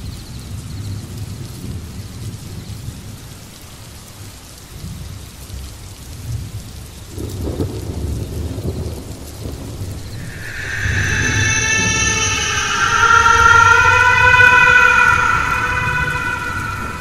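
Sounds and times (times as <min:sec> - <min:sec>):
rain falling steadily: 0:00.0 - 0:17.0.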